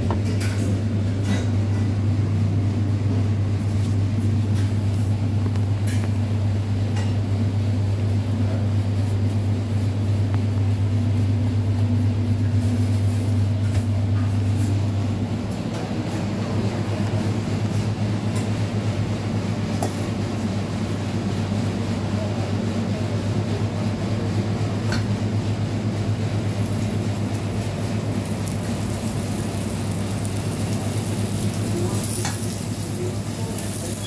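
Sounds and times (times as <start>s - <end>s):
kitchen equipment humming: 0.0s - 34.0s.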